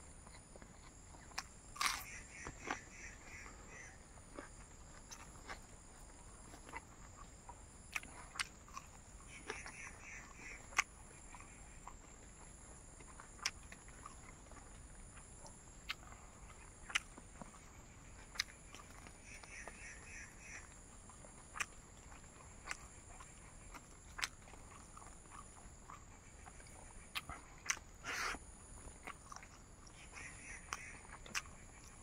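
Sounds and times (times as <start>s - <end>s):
mouth clicks and smacks chewing: 0.1s - 32.0s.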